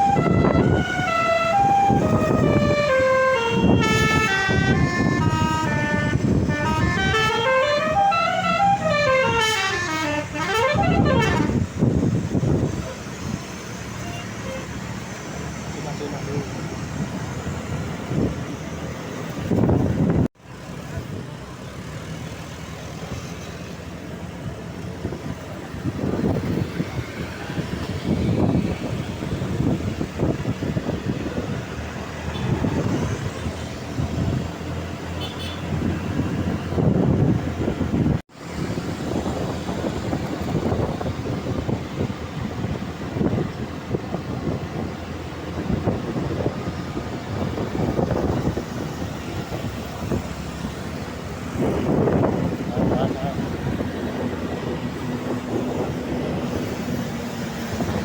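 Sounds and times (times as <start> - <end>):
heavy vehicle rumbling past: 0.0 - 58.0.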